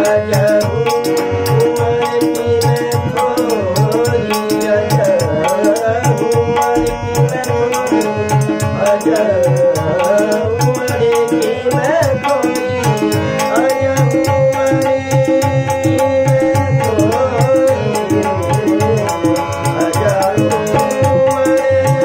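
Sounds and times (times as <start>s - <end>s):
harmonium chords: 0.0s - 22.0s
man singing: 0.0s - 22.0s
tabla strokes: 0.0s - 22.0s.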